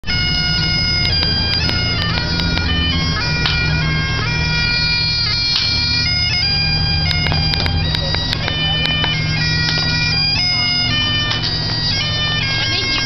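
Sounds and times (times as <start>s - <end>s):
bagpipes playing a tune: 0.0s - 13.0s.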